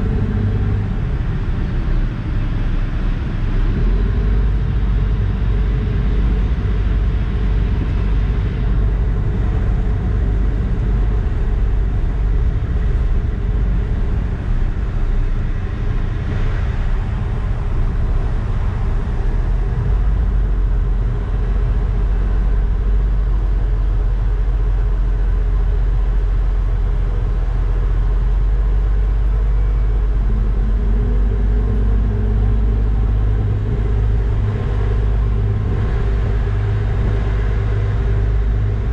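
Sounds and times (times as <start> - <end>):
ferry engines droning: 0.0 - 38.9
wind and water rushing: 0.0 - 38.9.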